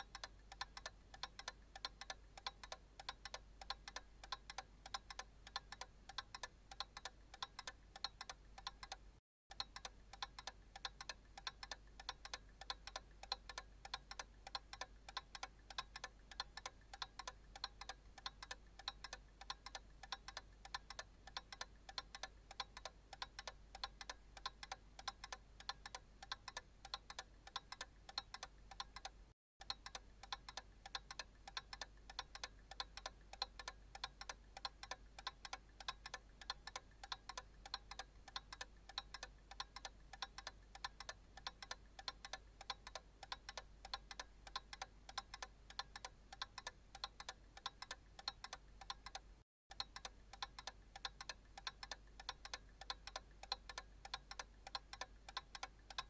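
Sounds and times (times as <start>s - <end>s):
analog clock ticking: 0.0s - 56.0s.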